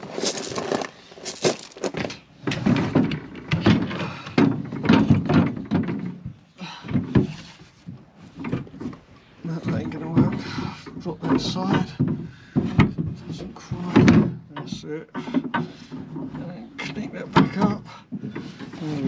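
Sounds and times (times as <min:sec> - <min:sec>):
plastic tank clunking on steel: 0:01.9 - 0:18.8.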